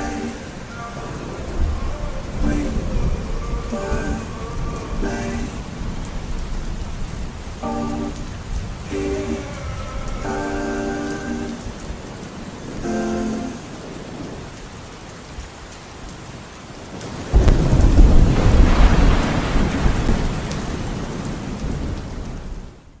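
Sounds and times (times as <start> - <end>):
thunder clap and rumble: 0.0 - 14.7, 16.9 - 22.9
steady rain: 0.0 - 23.0.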